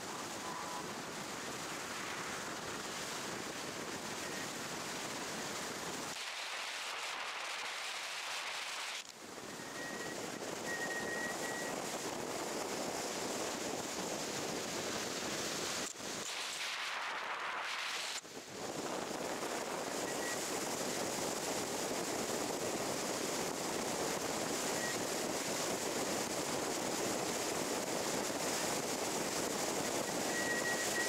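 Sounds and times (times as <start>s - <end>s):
wind and road noise from car: 0.0s - 31.0s.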